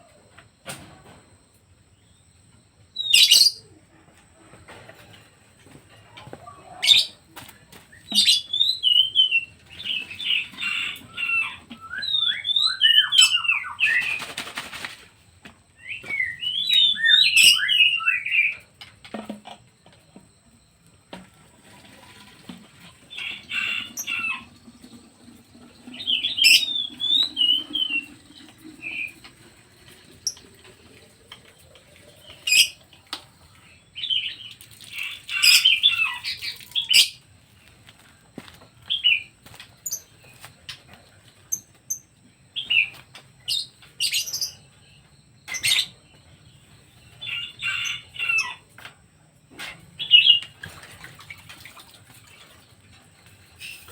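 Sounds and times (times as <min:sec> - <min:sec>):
songbirds chirping: 0:01.1 - 0:53.9.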